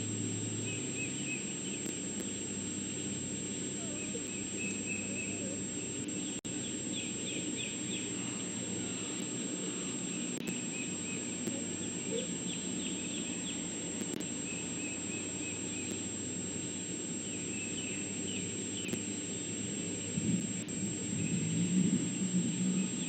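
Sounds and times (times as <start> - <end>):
background hiss: 0.0 - 23.0
low hum: 0.0 - 23.0
thin high whine: 0.0 - 23.0
small birds chirping: 0.4 - 21.7.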